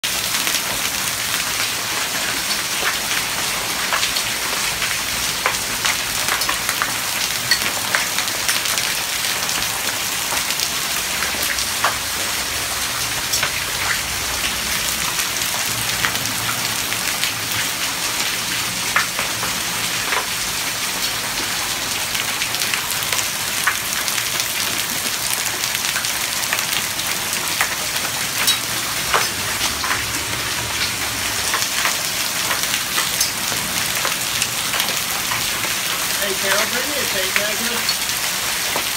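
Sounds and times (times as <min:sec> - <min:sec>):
hail and rain falling: 0:00.0 - 0:38.9
hailstones ticking on hard surfaces: 0:00.1 - 0:38.9.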